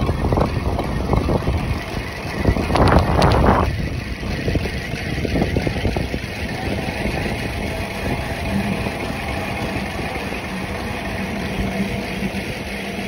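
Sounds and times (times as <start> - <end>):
bike tyres rumbling on concrete: 0.0 - 13.0
wind rushing over microphone: 0.0 - 13.0.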